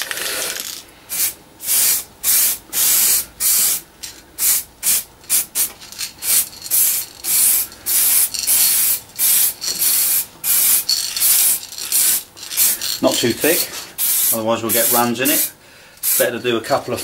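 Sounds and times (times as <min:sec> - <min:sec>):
spray can hissing in bursts: 0:00.0 - 0:03.8, 0:04.4 - 0:16.3.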